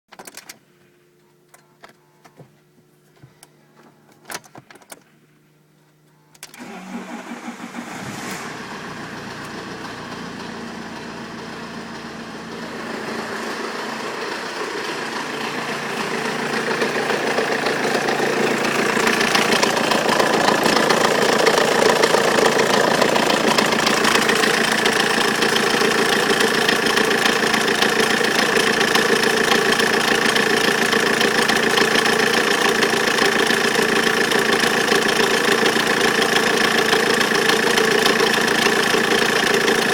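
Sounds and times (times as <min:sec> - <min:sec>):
diesel engine starting and running: 0:06.4 - 0:39.9.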